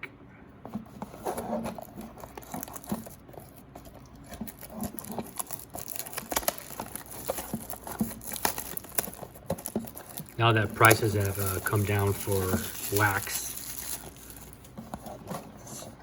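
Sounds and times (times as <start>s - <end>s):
cardboard and plastic crinkling: 0.7s - 16.0s.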